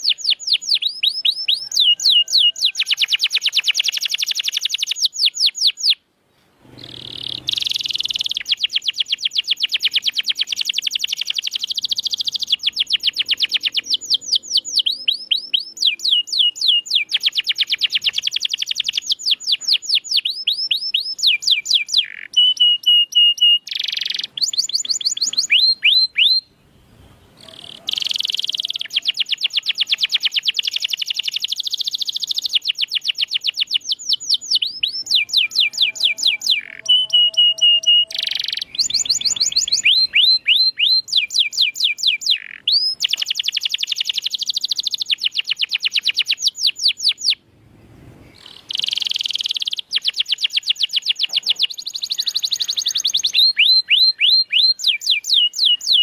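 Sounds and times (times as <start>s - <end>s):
canary singing trills: 0.0s - 6.0s, 6.6s - 47.4s, 48.2s - 56.0s.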